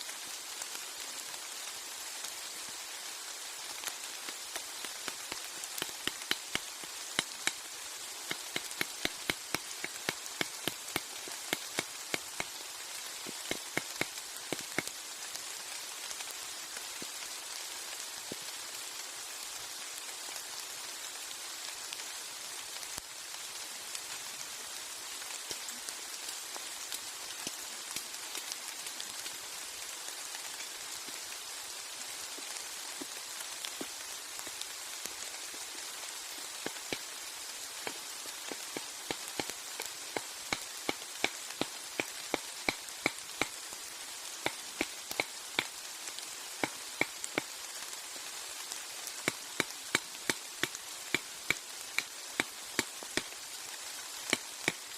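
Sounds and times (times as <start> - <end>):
heavy rain on forest canopy: 0.0 - 54.9.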